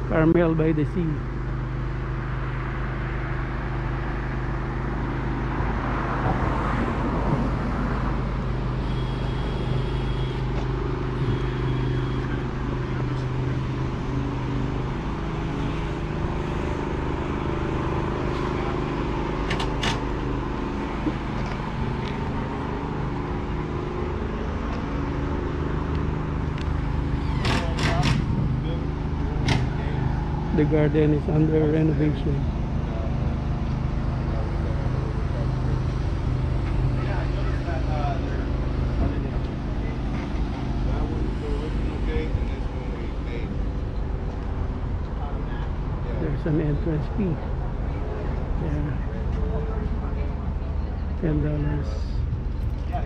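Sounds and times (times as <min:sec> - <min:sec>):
car engine hum and road noise: 0:00.0 - 0:53.0.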